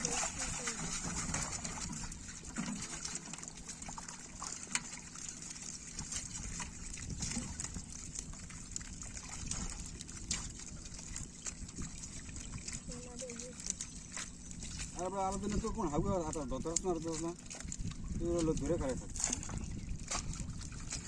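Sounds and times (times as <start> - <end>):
small splashes: 0.0 - 21.0
water sloshing and trickling: 0.0 - 21.0.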